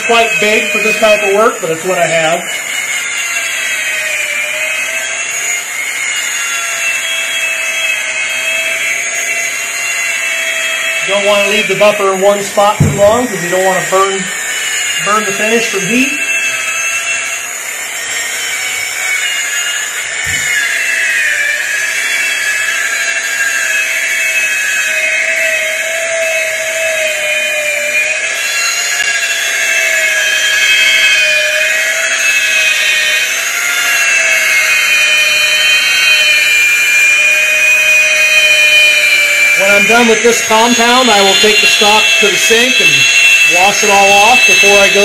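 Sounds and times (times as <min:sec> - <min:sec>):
rotary buffer motor whine: 0:00.0 - 0:45.0.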